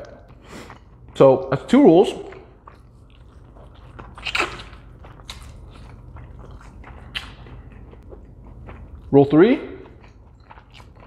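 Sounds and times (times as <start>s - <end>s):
close chewing and biting: 0.3s - 11.0s.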